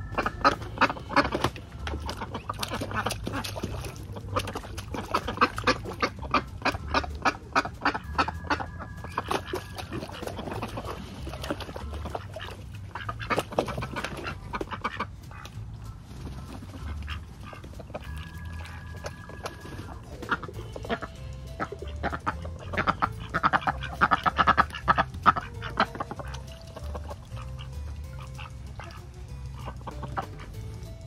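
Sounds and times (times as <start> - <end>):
ducks quacking: 0.0 - 31.0.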